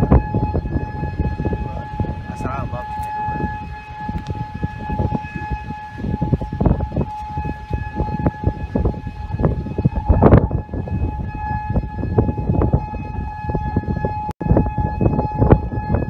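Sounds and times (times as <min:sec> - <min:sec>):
warning siren steady tone: 0:00.0 - 0:16.0
wind buffeting microphone: 0:00.0 - 0:16.0.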